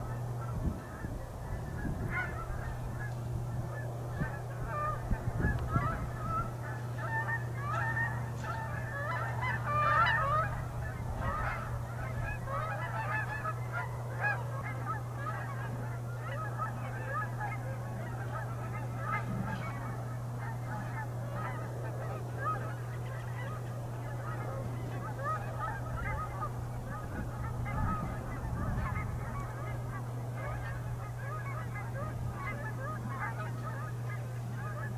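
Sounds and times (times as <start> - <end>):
geese and swans honking: 0.0 - 34.9
steady low hum: 0.0 - 34.9.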